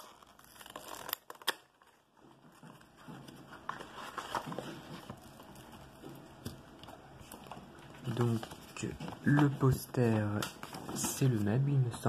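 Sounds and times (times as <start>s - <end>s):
cardboard and paper rustling: 0.0s - 12.0s.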